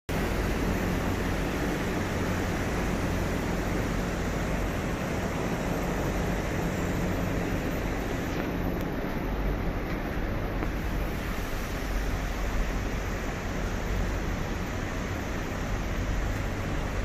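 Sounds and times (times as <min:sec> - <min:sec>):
station platform hiss and hum: 0:00.1 - 0:17.0.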